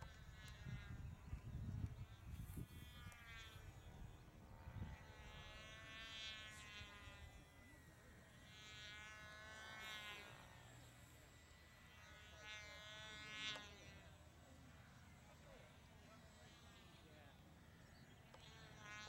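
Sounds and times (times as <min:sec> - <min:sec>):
model plane motor buzzing: 0:00.0 - 0:19.0.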